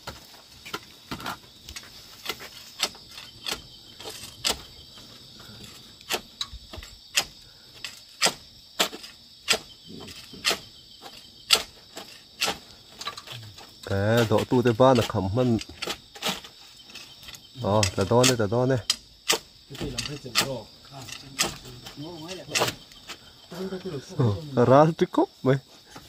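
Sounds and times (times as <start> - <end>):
high insect chirr: 0.0 - 26.0.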